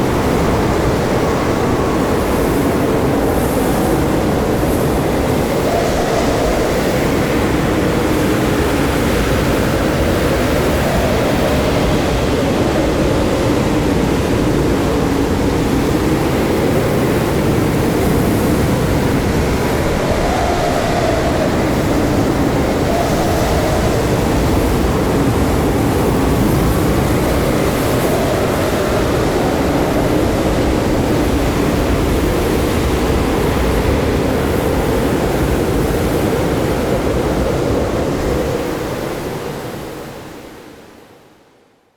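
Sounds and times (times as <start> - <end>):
blizzard wind howling: 0.0 - 41.5.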